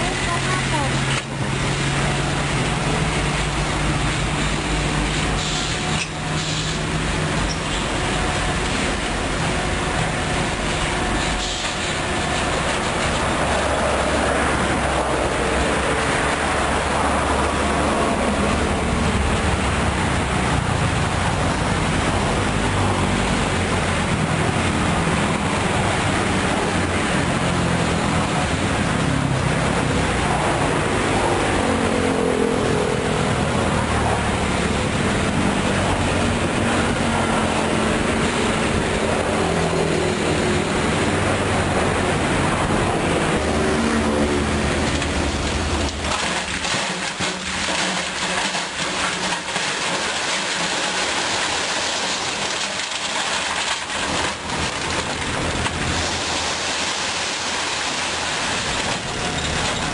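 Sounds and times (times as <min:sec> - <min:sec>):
dump truck diesel engine: 0:00.0 - 0:59.9.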